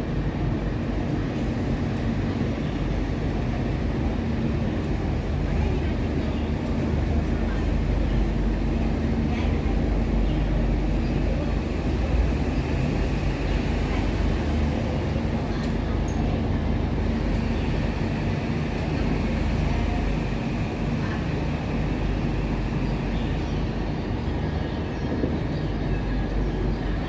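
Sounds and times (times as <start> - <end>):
constant steady hum: 0.0 - 27.0
engine low rumble: 0.0 - 27.0.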